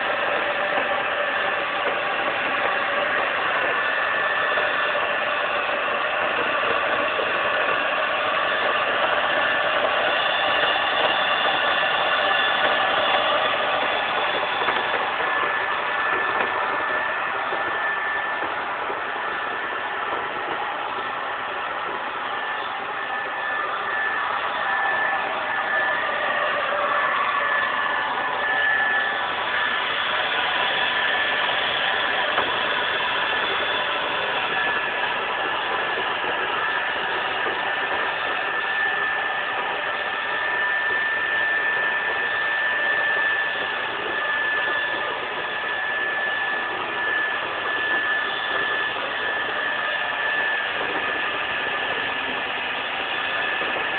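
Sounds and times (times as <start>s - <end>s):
carpet cleaning machine whirring: 0.0s - 53.9s.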